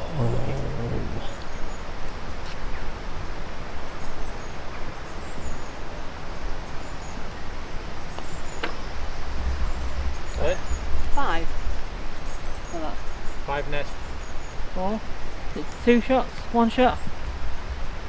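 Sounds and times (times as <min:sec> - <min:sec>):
faint birds chirping: 0:00.0 - 0:18.0
wind buffeting microphone: 0:00.0 - 0:18.0.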